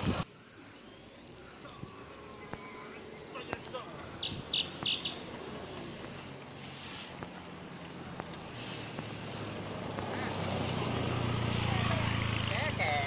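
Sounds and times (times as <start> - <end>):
road noise: 0.0 - 13.0
car engine humming: 0.3 - 13.0.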